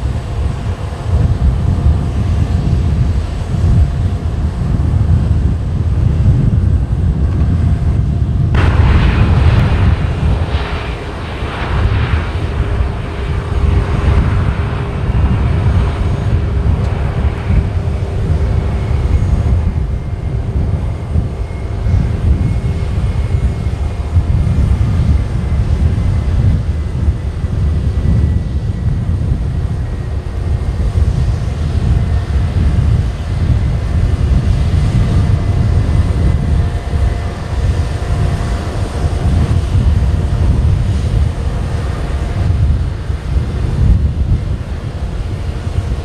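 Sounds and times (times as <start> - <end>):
jet engines roaring: 0.0 - 46.0
wind on microphone: 0.0 - 46.0.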